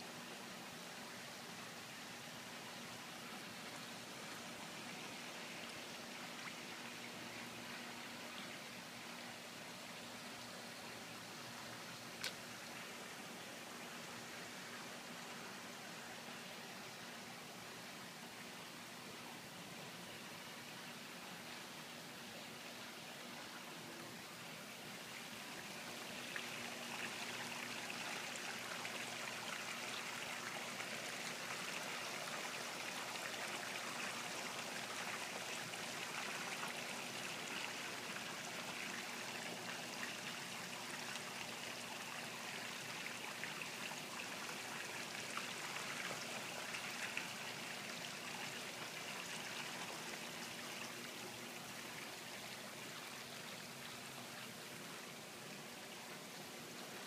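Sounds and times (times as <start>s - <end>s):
pond water trickling: 0.0s - 57.0s.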